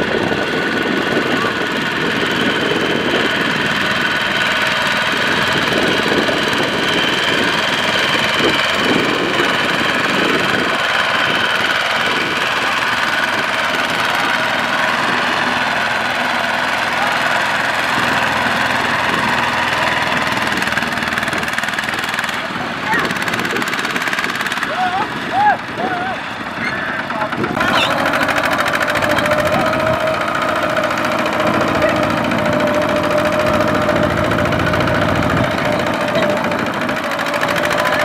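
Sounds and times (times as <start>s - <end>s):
diesel tractor engine running: 0.0s - 38.0s.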